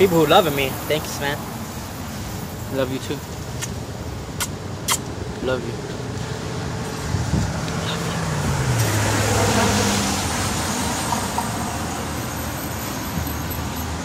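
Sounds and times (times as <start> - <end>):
vehicle road noise: 0.0 - 14.0
low engine tone: 2.4 - 14.0.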